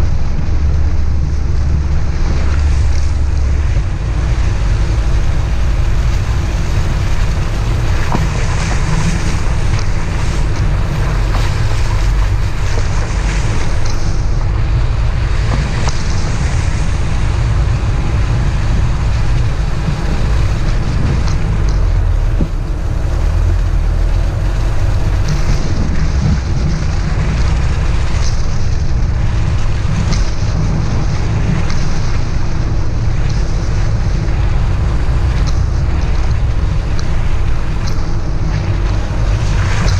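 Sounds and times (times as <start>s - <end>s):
vehicle engine running: 0.0s - 39.9s
wind rumble on microphone: 0.0s - 39.9s.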